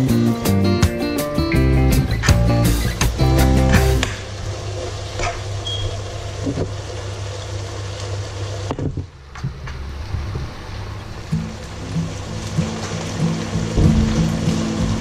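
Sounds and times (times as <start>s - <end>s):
constant low hum: 1.1s - 15.0s.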